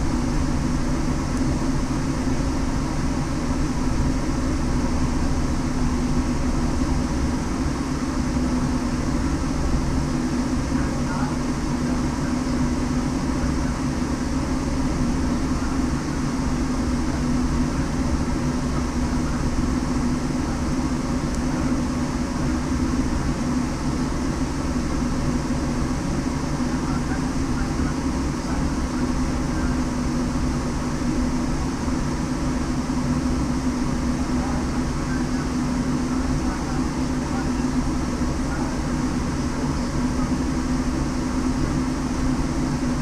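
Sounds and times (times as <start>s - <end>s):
steady vehicle drone: 0.0s - 43.0s.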